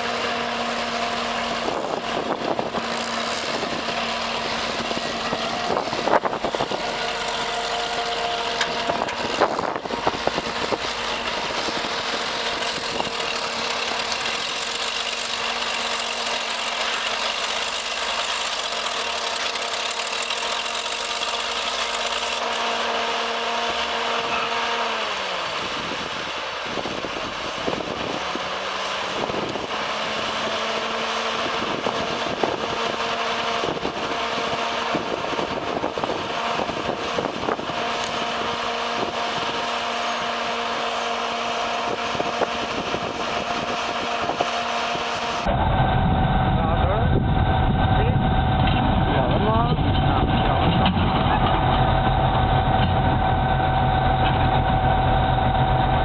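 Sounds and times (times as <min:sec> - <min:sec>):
heavy machine engine under load: 0:00.0 - 0:56.0.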